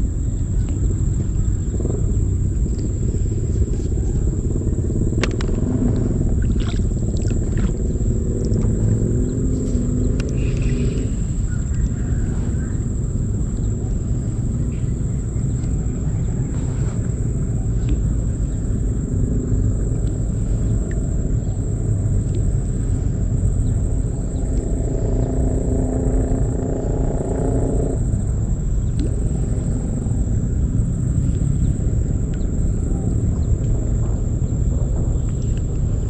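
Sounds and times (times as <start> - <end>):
low pitched hum: 0.0 - 36.0
steady high whine: 0.0 - 36.0
wind rumbling on microphone: 0.0 - 36.0.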